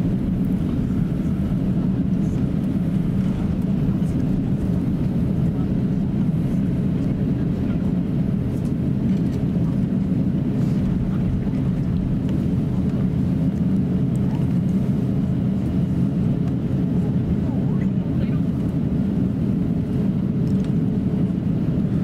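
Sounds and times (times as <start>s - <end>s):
aircraft cabin low rumble: 0.0s - 22.0s.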